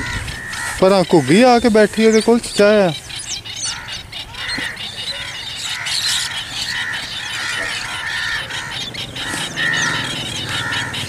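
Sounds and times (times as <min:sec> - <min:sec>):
birds nasal calls: 0:00.0 - 0:11.0.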